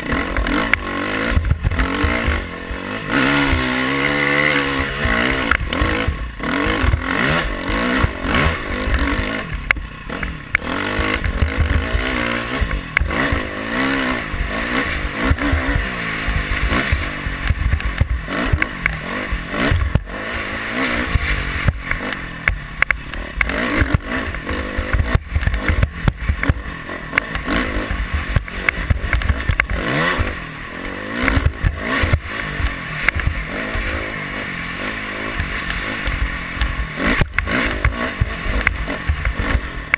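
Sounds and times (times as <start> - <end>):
bike knocking and clattering: 0.0 - 34.1, 35.0 - 39.9
dirt bike engine revving: 0.0 - 39.9.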